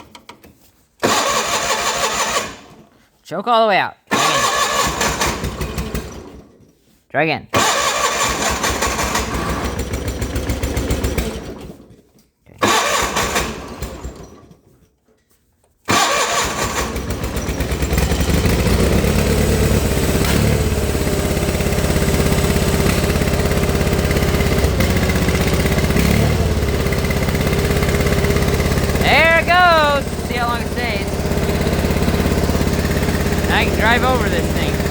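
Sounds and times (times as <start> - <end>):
engine cold-starting and running: 1.0 - 3.0, 4.1 - 6.7, 7.6 - 14.8, 15.9 - 34.9.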